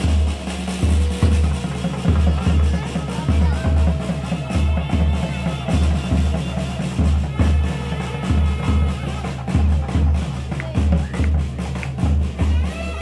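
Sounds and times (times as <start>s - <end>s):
bass drum beats: 0.0s - 13.0s
light percussion and music: 0.0s - 13.0s.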